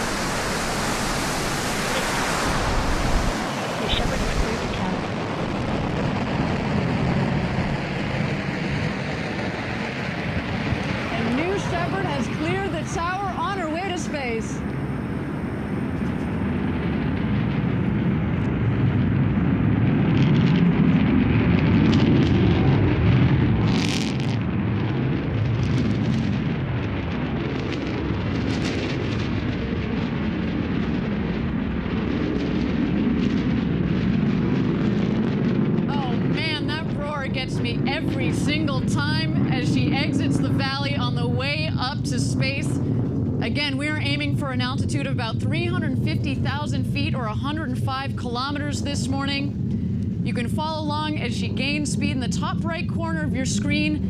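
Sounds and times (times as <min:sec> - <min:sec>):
rocket engine roar: 0:00.0 - 0:54.0.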